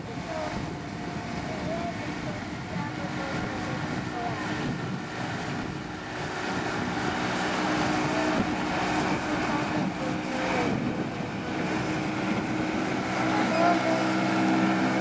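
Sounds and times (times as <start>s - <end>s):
outboard boat motor running: 0.0s - 15.0s
water rushing and splashing: 0.0s - 15.0s
wind on microphone: 0.0s - 15.0s.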